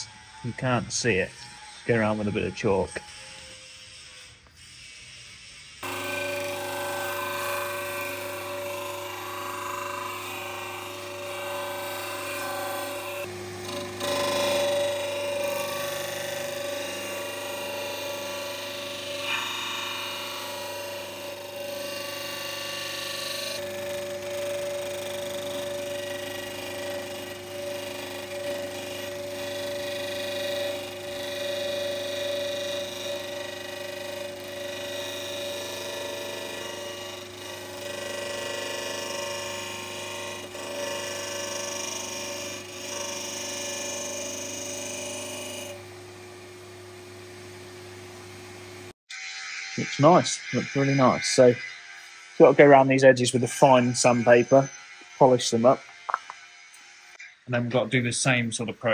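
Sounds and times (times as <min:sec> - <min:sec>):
disc sander grinding plastic: 0:00.0 - 0:46.5, 0:49.2 - 0:57.3
motor hum: 0:00.0 - 0:57.1.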